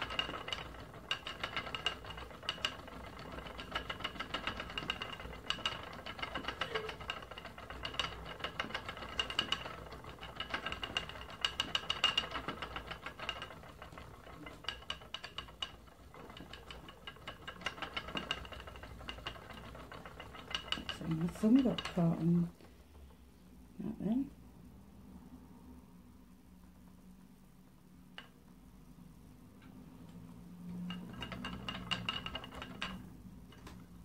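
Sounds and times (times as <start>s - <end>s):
spinning wheel rattling clicks: 0.0s - 22.6s, 28.1s - 28.6s, 29.5s - 34.0s.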